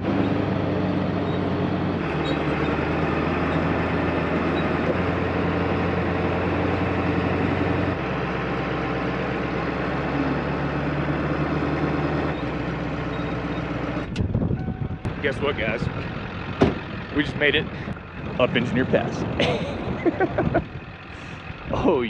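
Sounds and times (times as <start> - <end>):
diesel engine droning: 0.0 - 22.0
wind and tyre noise: 0.0 - 22.0.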